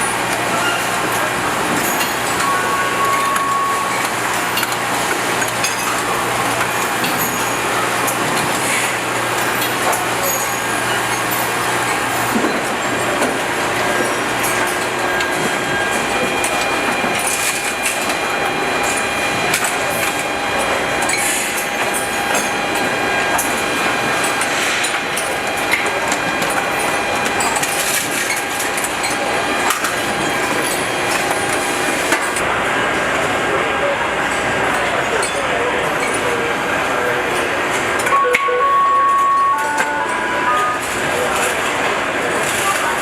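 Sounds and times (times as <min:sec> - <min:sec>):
machinery clanks and clicks: 0:00.0 - 0:38.2, 0:39.1 - 0:43.0.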